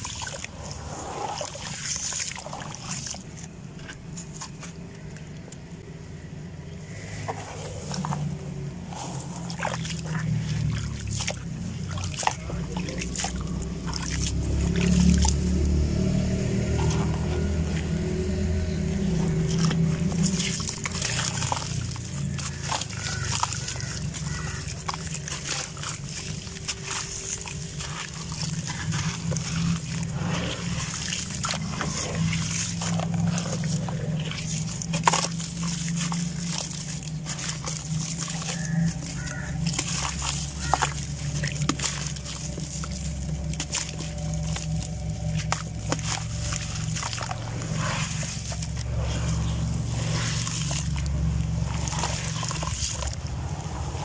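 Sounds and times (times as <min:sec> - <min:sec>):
gravel crunching by hand: 0:00.0 - 0:54.0
water sloshing and splashing: 0:00.0 - 0:54.0.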